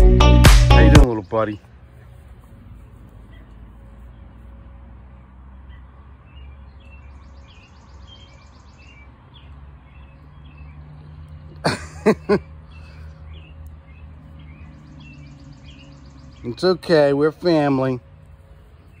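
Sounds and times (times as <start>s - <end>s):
small birds chirping: 1.0s - 19.0s.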